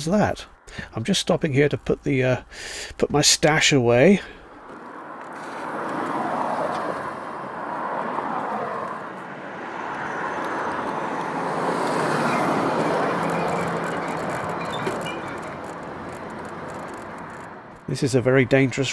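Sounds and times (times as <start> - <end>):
vehicle engine hum: 0.0 - 18.9
vehicles passing on road: 0.0 - 18.9.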